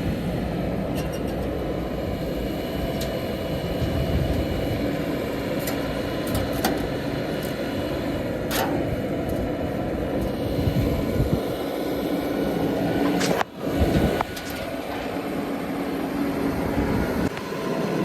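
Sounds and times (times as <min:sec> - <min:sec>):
backhoe loader diesel engine running: 0:00.0 - 0:18.0.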